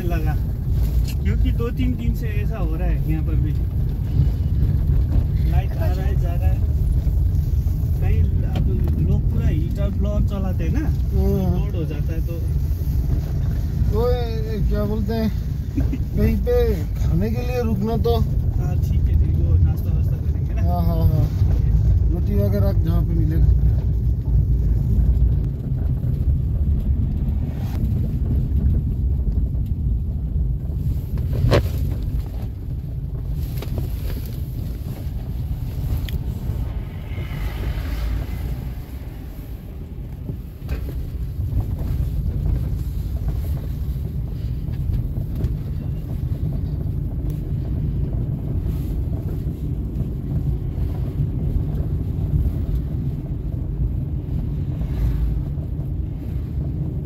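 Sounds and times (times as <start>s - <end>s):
moving car rumble: 0.0s - 57.0s
wind buffeting microphone: 0.0s - 57.0s.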